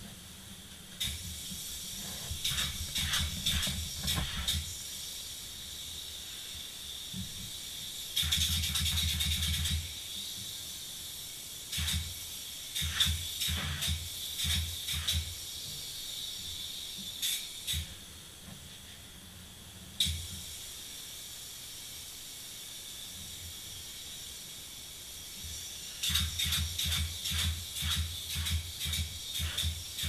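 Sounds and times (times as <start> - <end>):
steady high hiss: 0.0 - 30.0
spray foam gun hissing bursts: 1.0 - 18.3, 20.0 - 30.0.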